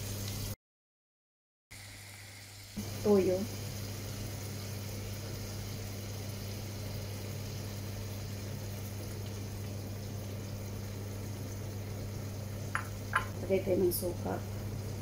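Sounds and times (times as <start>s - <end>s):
sauce sizzling and bubbling: 0.0s - 0.6s, 1.7s - 15.0s
kitchen appliance humming: 1.8s - 15.0s.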